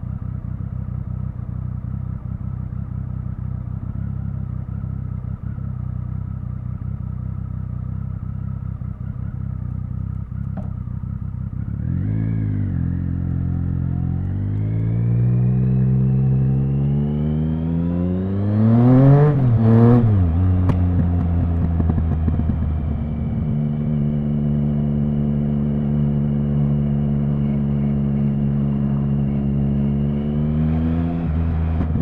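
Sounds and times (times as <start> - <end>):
motorcycle engine idling and accelerating: 0.0 - 32.0.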